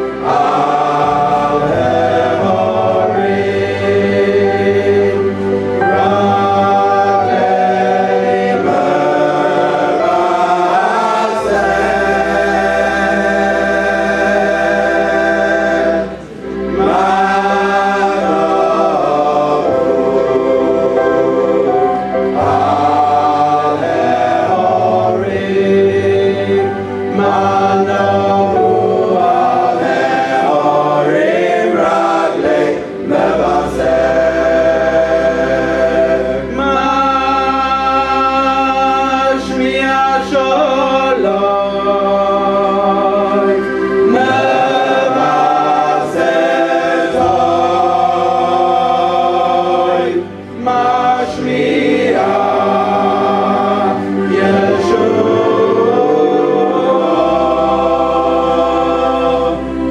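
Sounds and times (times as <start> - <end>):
choir singing in parts: 0.0 - 59.9.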